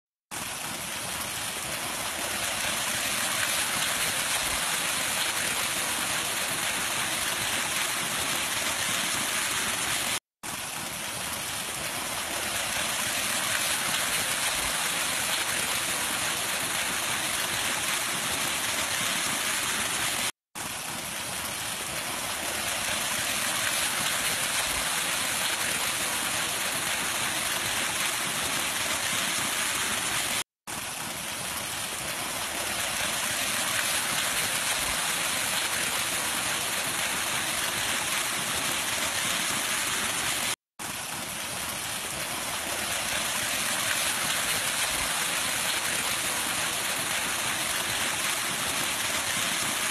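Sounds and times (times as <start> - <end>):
water gushing over grass: 0.3 - 49.9.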